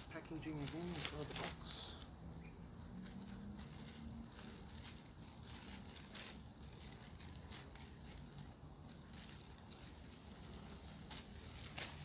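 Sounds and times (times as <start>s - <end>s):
plastic bag rustling: 0.0s - 2.0s, 2.7s - 12.0s.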